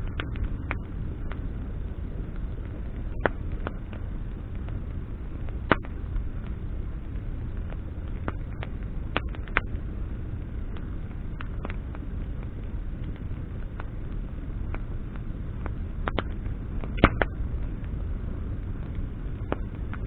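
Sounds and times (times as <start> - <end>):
bonfire crackling and popping: 0.0 - 20.0.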